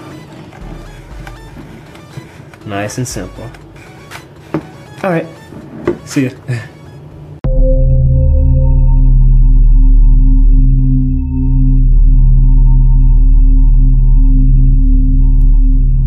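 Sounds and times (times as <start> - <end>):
electronic tones over hum: 0.0 - 16.0.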